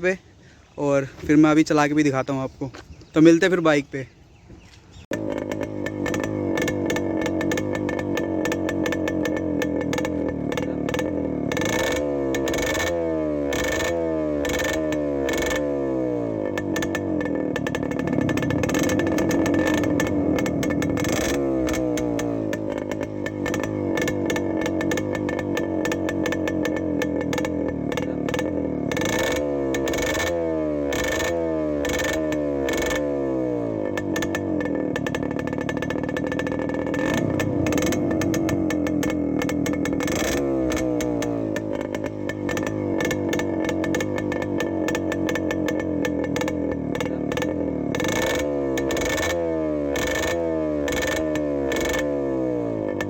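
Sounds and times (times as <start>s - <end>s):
motorcycle engine revving: 4.9s - 53.0s.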